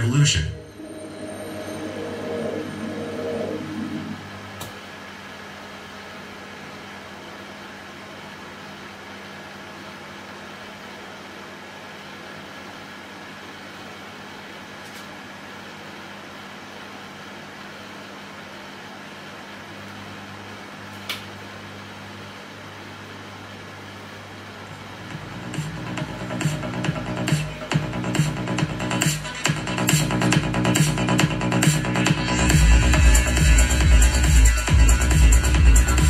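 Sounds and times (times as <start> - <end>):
fume extractor fan whirring: 0.0 - 36.0.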